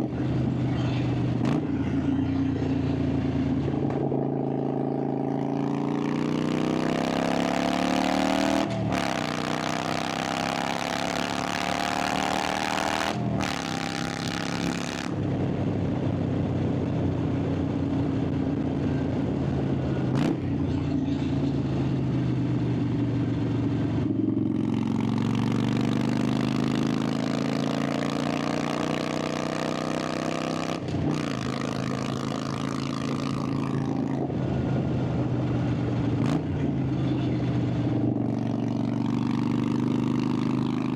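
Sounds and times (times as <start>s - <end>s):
motorcycle exhaust accelerating: 0.0s - 40.9s.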